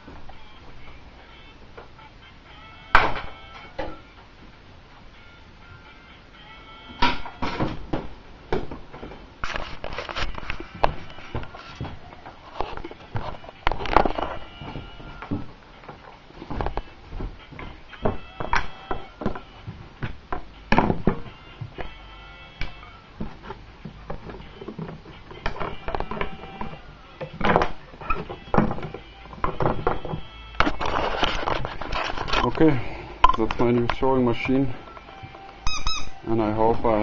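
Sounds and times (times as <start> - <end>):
background music: 0.0 - 37.0.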